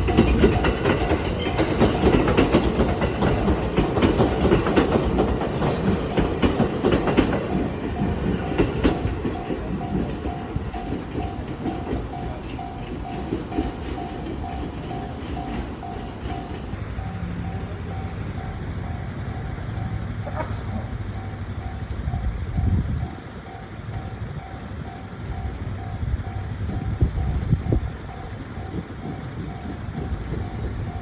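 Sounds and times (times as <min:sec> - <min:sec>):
train wheels clacking over rails: 0:00.0 - 0:31.0.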